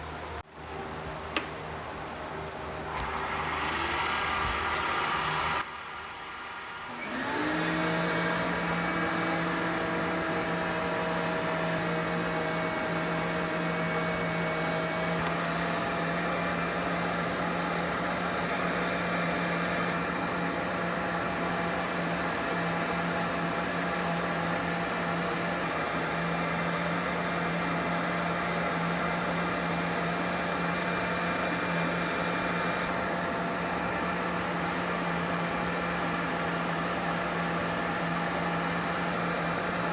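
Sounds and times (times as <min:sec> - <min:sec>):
wood lathe motor humming: 0:02.9 - 0:39.9.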